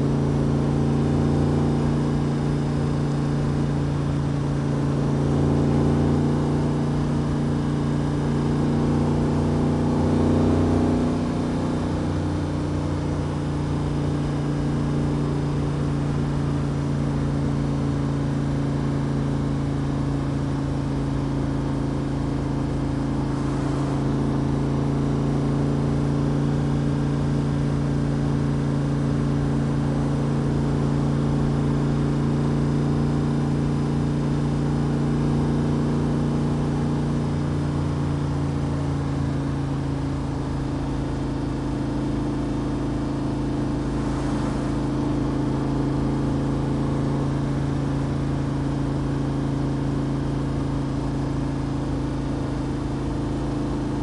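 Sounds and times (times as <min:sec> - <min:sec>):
car engine cruising: 0:00.0 - 0:54.0.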